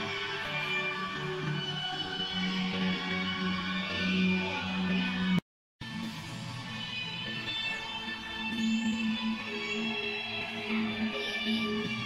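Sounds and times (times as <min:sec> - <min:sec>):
anthem music from television: 0:00.0 - 0:12.0.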